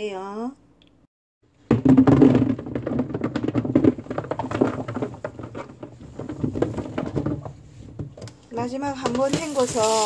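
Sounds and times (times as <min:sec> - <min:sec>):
plums clattering into a basin: 0:01.6 - 0:10.0.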